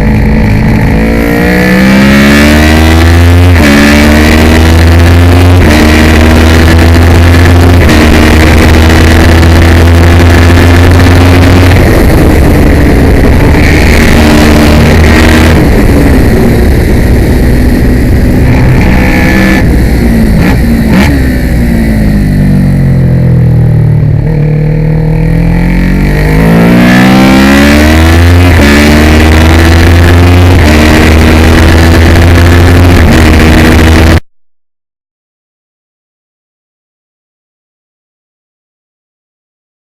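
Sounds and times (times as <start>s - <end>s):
motorcycle engine at high revs: 0.0s - 34.2s.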